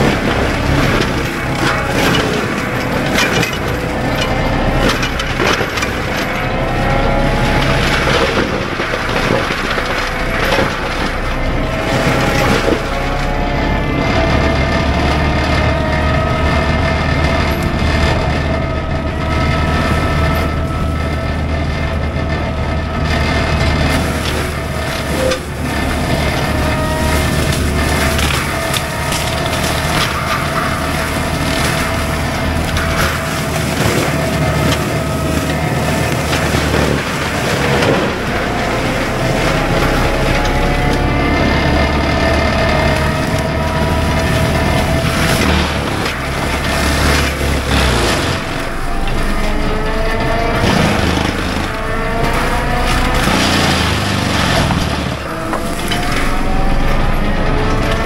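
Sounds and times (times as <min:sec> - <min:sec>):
diesel and hydraulic drone: 0:00.0 - 0:58.0
wood cracking and snapping: 0:00.0 - 0:58.0.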